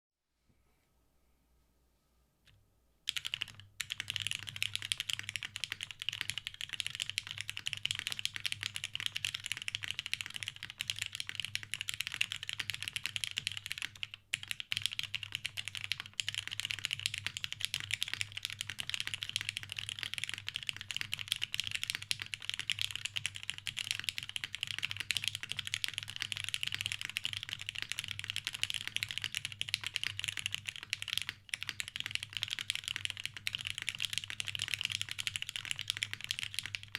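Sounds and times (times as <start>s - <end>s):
mechanical keyboard typing: 3.1s - 36.9s.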